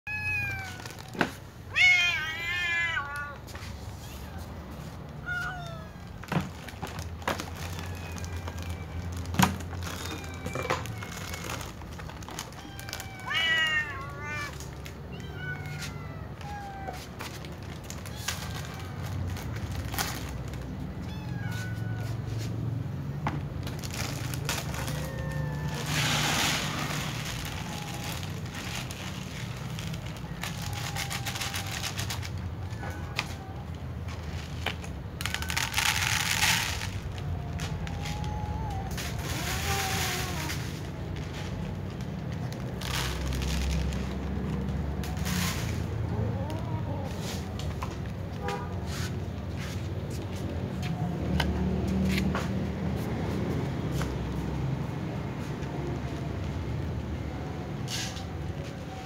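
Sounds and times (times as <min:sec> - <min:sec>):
cats meowing: 0:00.0 - 0:48.4, 0:49.1 - 0:59.0.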